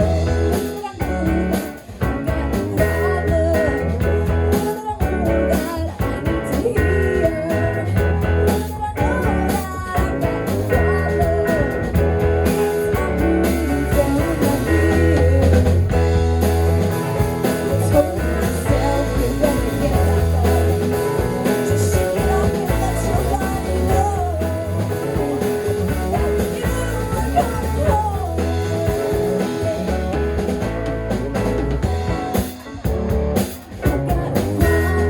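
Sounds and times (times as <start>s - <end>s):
electric guitar: 0.0s - 35.0s
rock band playing: 0.0s - 35.0s
steady bass line: 0.0s - 35.0s.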